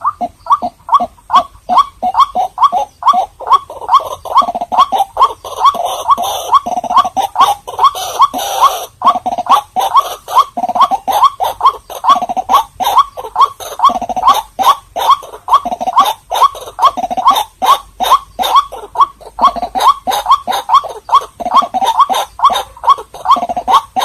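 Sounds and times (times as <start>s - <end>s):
waterhen croaking calls: 0.0s - 24.0s.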